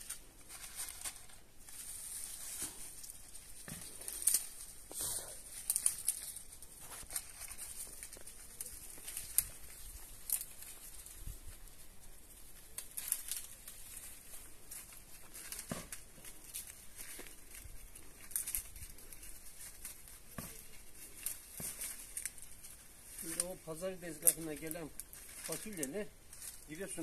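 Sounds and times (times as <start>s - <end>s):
dry plants rustling and crackling: 0.0s - 27.0s.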